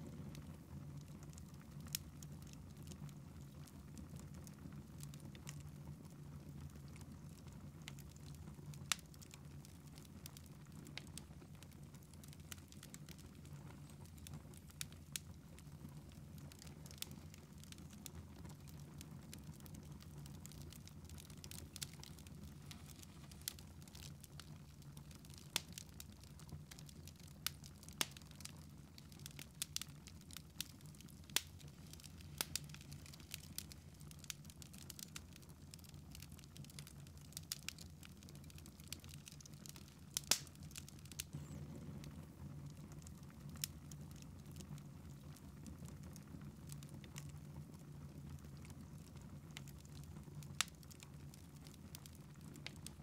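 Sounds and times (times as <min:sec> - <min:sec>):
log fire crackling: 0:00.0 - 0:53.0.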